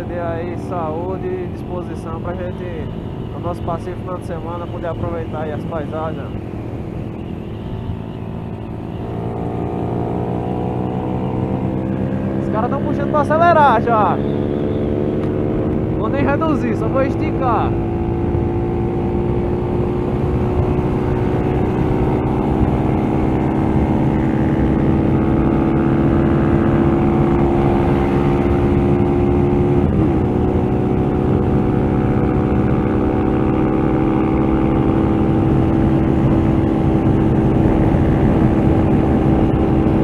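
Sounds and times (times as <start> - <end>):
motorcycle engine at high revs: 0.0 - 40.0.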